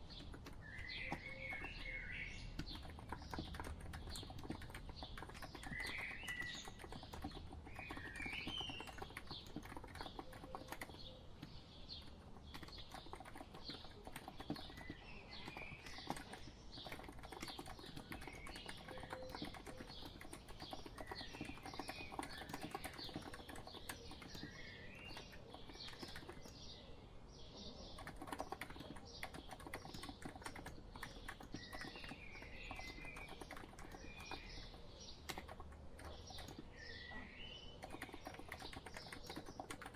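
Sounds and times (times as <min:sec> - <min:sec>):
soft keyboard typing: 0:00.0 - 0:26.8, 0:27.9 - 0:37.0, 0:37.6 - 0:39.9
birds chirping: 0:00.0 - 0:39.9.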